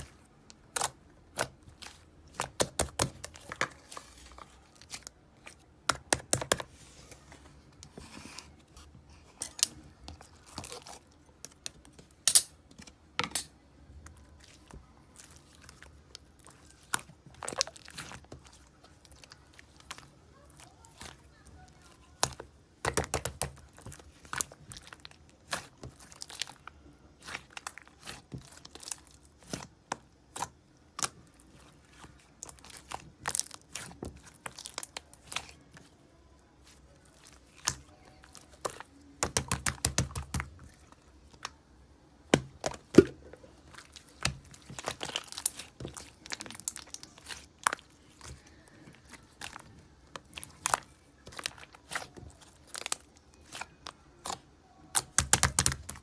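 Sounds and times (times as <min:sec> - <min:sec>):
slime squishing and crackling: 0:00.0 - 0:06.7, 0:07.7 - 0:56.0.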